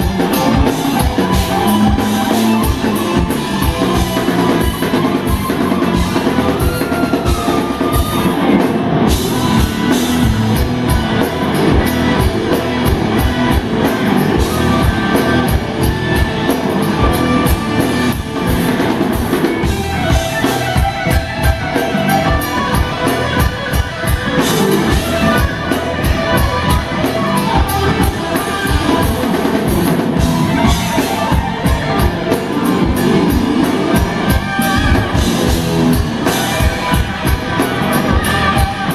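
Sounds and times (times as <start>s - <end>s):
busy drumming: 0.0s - 38.9s
electric bass: 0.0s - 38.9s
lead electric guitar: 0.0s - 38.9s
second electric guitar: 0.0s - 38.9s.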